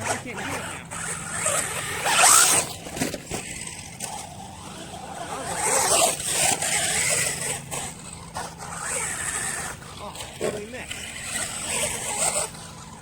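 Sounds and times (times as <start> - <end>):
rc truck motor whine: 0.0 - 13.0.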